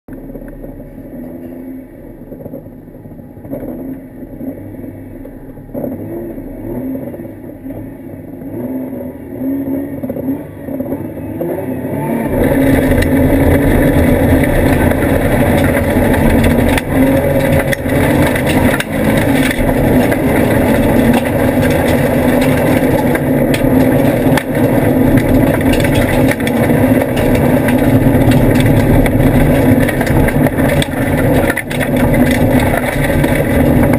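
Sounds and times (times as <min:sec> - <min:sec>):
car engine revving in cabin: 0:00.1 - 0:33.9.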